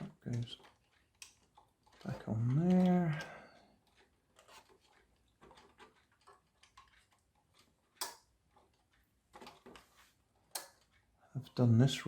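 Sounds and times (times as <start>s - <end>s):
small plastic parts clicking: 0.0s - 11.0s.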